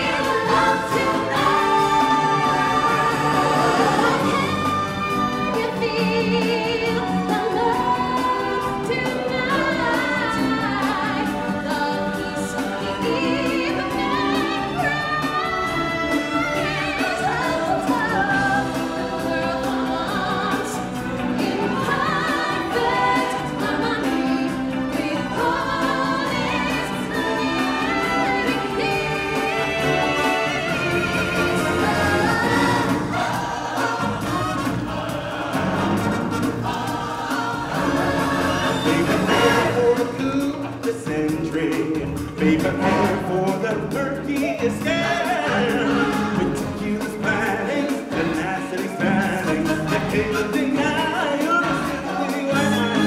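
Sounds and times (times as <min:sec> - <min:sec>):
choir and soloists singing: 0:00.0 - 0:53.0
orchestral backing track: 0:00.0 - 0:53.0.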